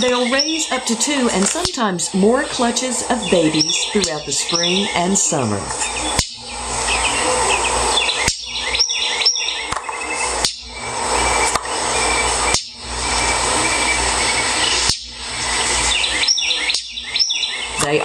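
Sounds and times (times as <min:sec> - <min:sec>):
steady rushing noise: 0:00.0 - 0:16.8
birds giving sharp alarm chirps: 0:02.9 - 0:17.9.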